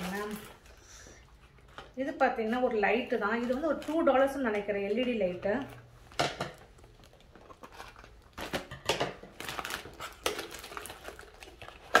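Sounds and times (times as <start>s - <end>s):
plastic packaging crinkling: 0.0s - 5.8s, 6.6s - 12.0s.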